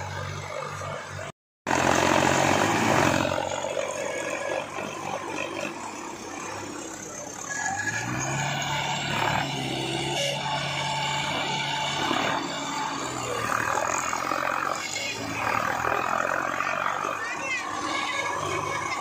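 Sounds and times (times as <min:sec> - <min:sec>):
tractor diesel engines under load: 0:00.0 - 0:19.0
tractor engine revving: 0:00.0 - 0:19.0.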